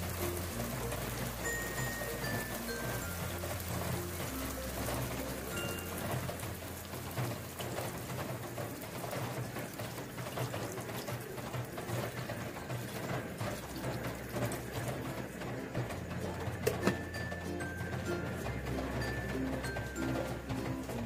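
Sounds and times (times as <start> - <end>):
water pouring into a pot: 0.0 - 21.0
water splashing over vegetables: 0.0 - 21.0.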